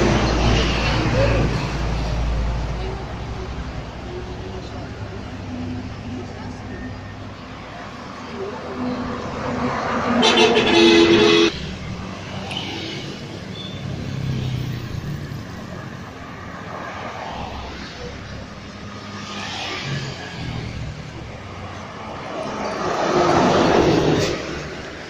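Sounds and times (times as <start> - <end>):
bus approaching: 0.0 - 19.1, 19.8 - 25.0
low traffic drone: 0.0 - 25.0
vehicles passing on highway: 0.0 - 25.0.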